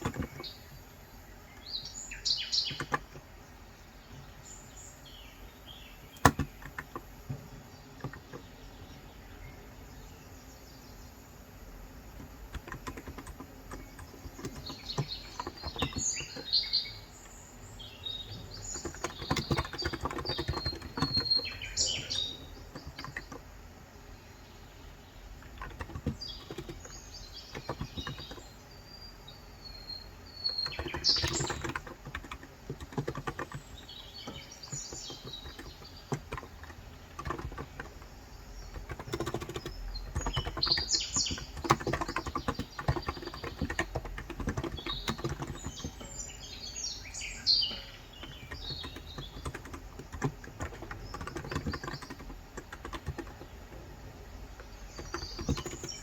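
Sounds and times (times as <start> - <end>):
soft keyboard typing: 0.0 - 0.9, 2.6 - 3.3, 6.0 - 8.7, 11.6 - 23.6, 25.2 - 28.7, 29.7 - 56.0
birds chirping: 0.0 - 56.0.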